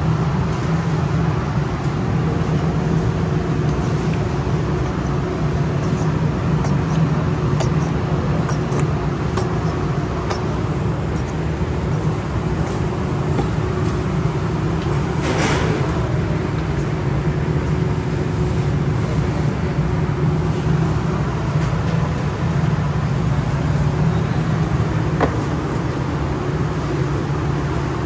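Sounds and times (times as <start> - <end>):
low hum of kitchen machinery: 0.0 - 28.0.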